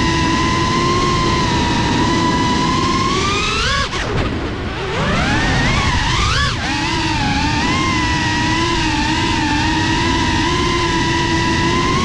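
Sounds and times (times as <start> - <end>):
drone motors whining and revving: 0.0 - 12.0.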